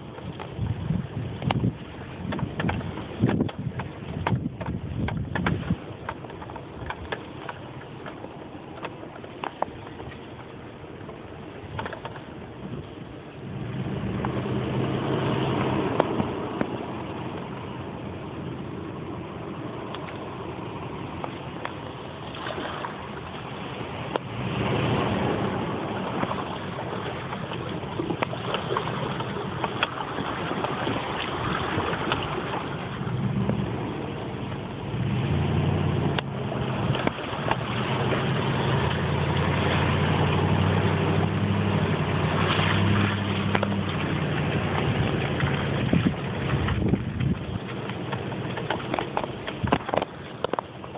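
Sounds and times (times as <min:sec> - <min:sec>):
pickup engine at low speed: 0:00.0 - 0:50.9
water splashing: 0:00.0 - 0:50.9.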